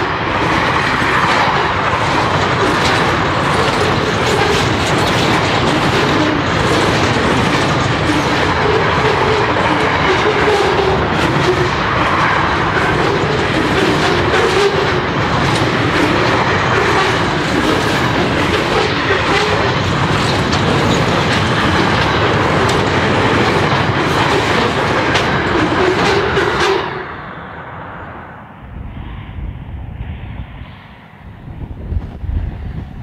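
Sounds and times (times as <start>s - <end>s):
wheels clacking over rail joints: 0.0s - 27.1s
train wheels rumbling on rail: 0.0s - 33.0s.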